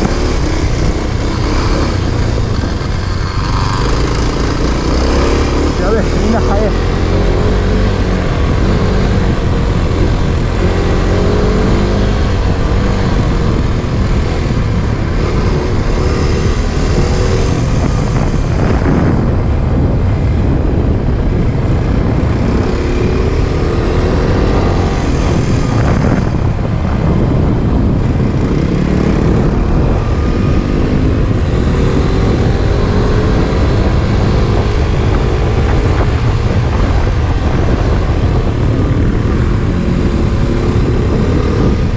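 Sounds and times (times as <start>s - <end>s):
heavy rushing noise: 0.0s - 41.9s
motorcycle engine running: 0.0s - 41.9s.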